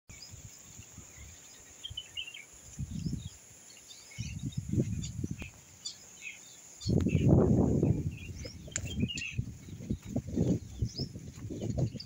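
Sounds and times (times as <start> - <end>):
wind rumble on microphone: 0.1 - 3.4, 4.1 - 5.7, 6.8 - 12.0
birds chirping: 0.1 - 12.0.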